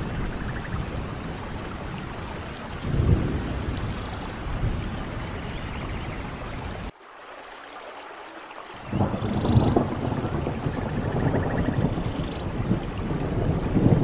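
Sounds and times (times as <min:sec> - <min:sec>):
low rolling thunder rumble: 0:00.0 - 0:06.9, 0:08.8 - 0:14.0
steady rain: 0:00.0 - 0:14.0.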